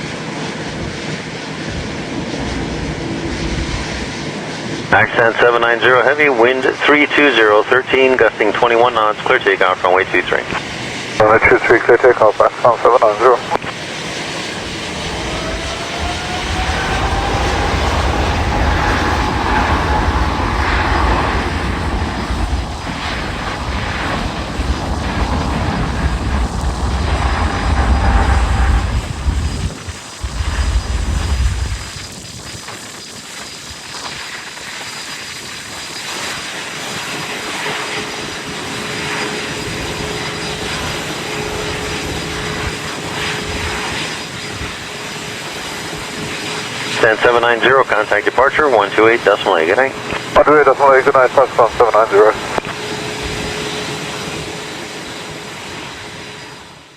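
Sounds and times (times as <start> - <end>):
steady engine drone: 0.0 - 33.0, 35.6 - 56.9
jet engine roar: 0.0 - 56.9
jet engines spooling up: 0.0 - 56.9.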